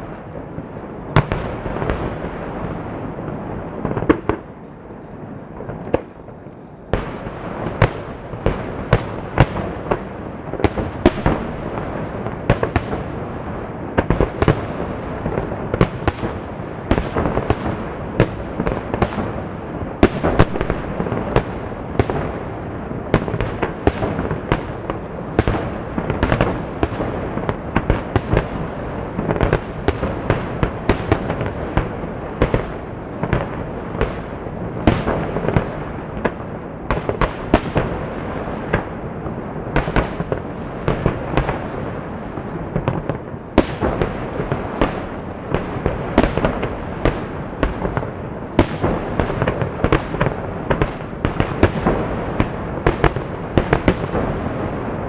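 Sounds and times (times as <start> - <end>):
fireworks bangs: 0.0 - 55.0
fireworks rumble: 0.0 - 55.0.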